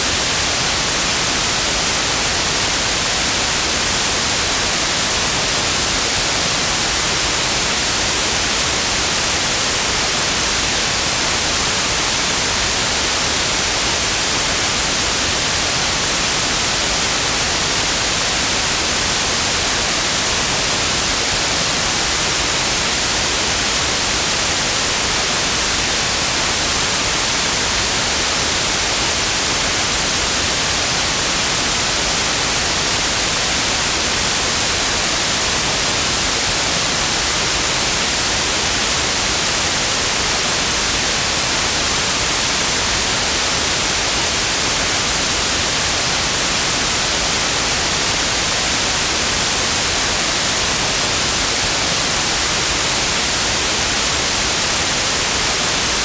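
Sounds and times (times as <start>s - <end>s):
synthetic white noise hiss: 0.0s - 56.0s.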